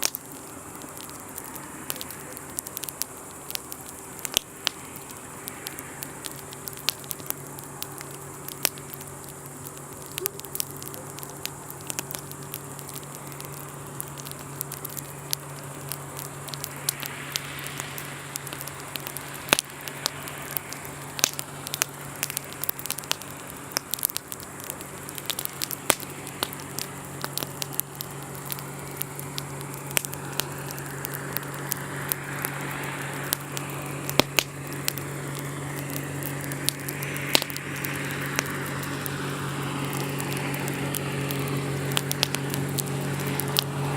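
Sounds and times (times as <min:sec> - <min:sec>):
campfire crackling and popping: 0:00.0 - 0:43.9
low hum: 0:00.0 - 0:43.9
soft hiss: 0:00.0 - 0:43.9.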